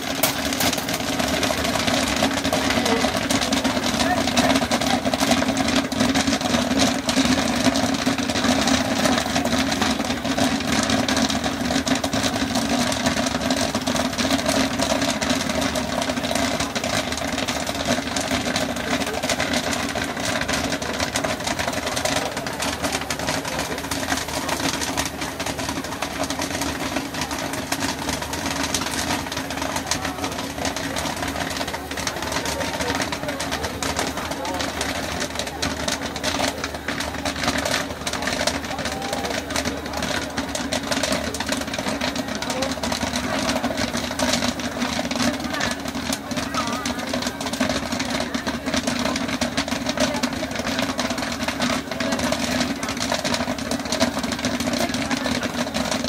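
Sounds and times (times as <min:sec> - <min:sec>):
popcorn machine humming: 0:00.0 - 0:56.0
popcorn popping and crackling: 0:00.0 - 0:56.0.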